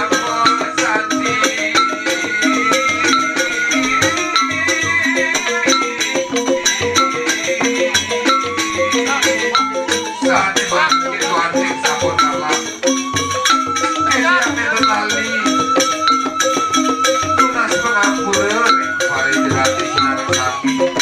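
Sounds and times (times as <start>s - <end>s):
bamboo xylophones struck with mallets: 0.0s - 21.0s
wavering high melody line: 0.0s - 21.0s.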